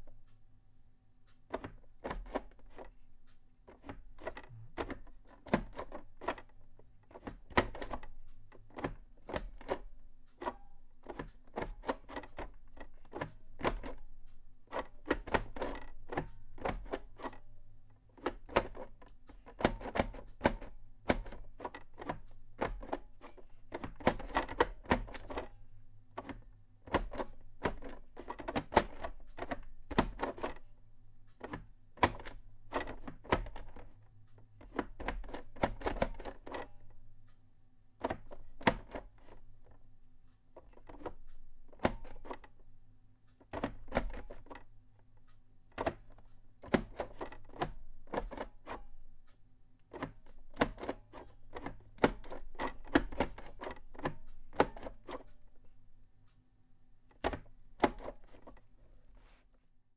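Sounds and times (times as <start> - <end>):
keyboard clicks and knocks: 1.3 - 30.7, 31.3 - 37.0, 38.0 - 39.8, 40.5 - 42.6, 43.4 - 49.0, 49.8 - 55.8, 57.1 - 58.7.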